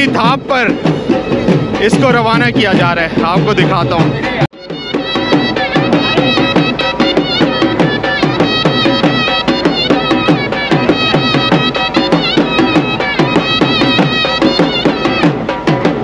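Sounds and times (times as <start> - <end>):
wavering melody instrument: 0.0 - 15.3
dhol drums beaten fast: 0.0 - 16.0.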